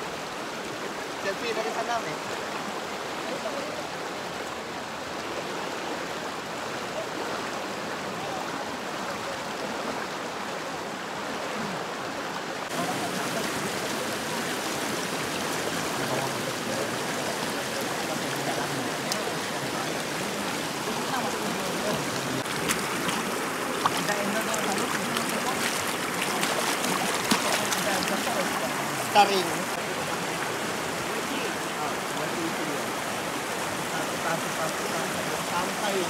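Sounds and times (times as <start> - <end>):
river rapids rushing over rocks: 0.0 - 36.0.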